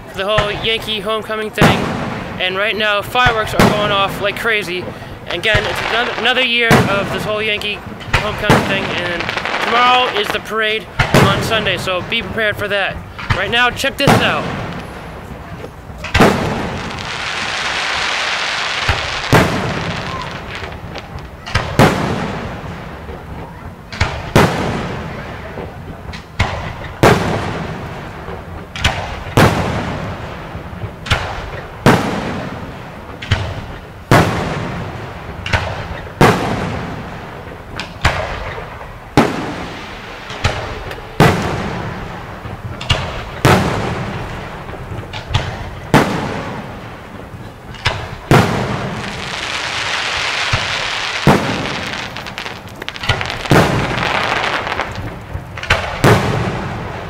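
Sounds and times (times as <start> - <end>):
steady hiss: 0.0 - 23.1, 24.9 - 57.0
firework shells bursting: 0.0 - 57.0.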